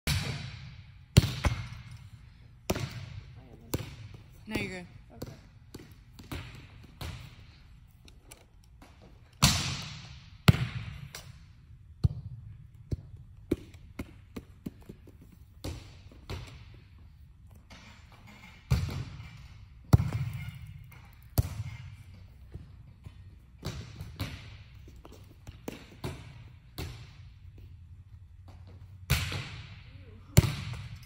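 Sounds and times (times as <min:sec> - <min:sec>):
volleyballs slapping and bouncing: 0:00.1 - 0:31.0.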